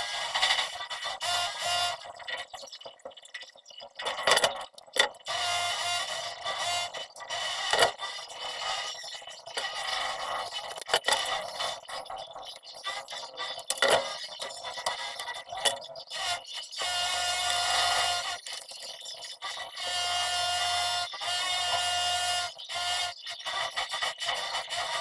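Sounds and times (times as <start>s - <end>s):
plastic pipes scraping: 0.0s - 25.0s.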